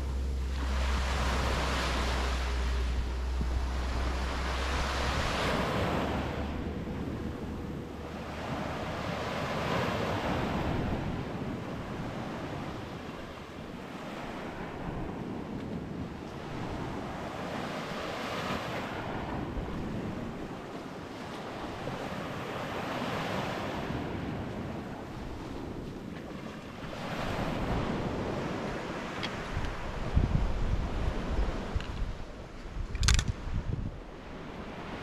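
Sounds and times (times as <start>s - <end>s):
ocean surf washing onto beach: 0.0s - 32.5s
wind rumbling on microphone: 0.0s - 35.0s.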